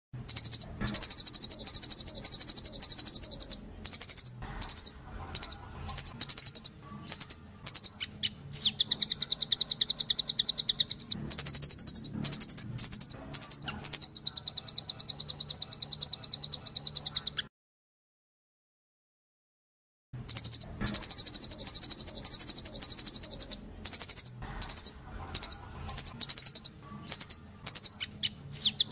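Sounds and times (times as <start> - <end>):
bird calling in rattling trills: 0.3 - 17.5, 20.3 - 28.9.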